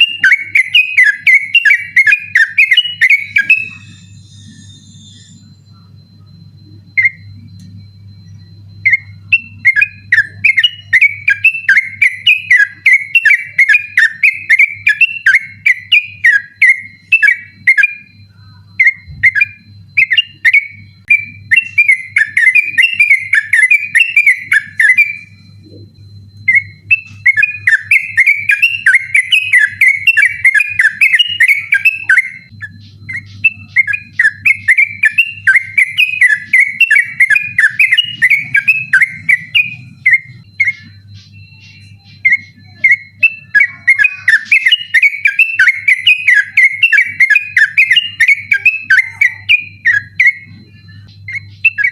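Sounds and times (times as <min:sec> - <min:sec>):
bird chattering whistled song: 0:00.0 - 0:51.9
low steady hum: 0:00.0 - 0:51.9.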